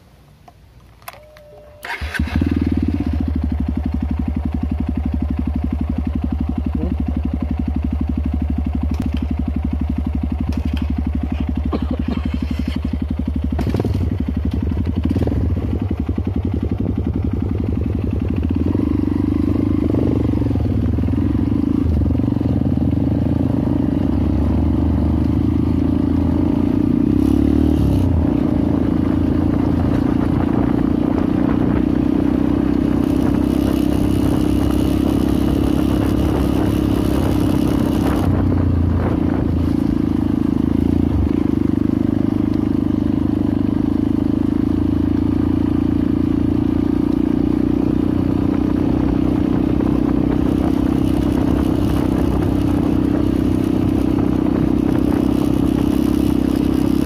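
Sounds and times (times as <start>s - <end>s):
motorcycle engine running: 1.8s - 57.0s.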